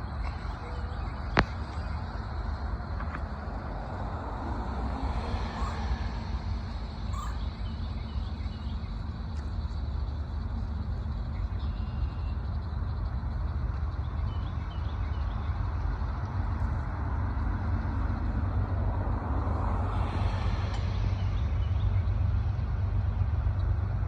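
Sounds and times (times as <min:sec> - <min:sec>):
engines rumbling: 0:00.0 - 0:24.0.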